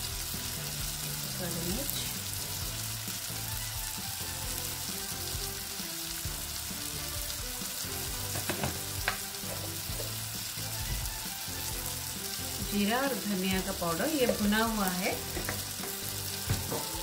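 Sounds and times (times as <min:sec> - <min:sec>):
masala sizzling in a steel pan: 0:00.0 - 0:17.0.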